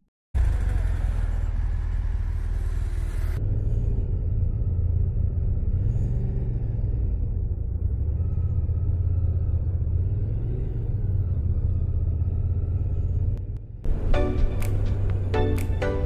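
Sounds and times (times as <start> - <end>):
motorcycle engine rumble: 0.4 - 16.0.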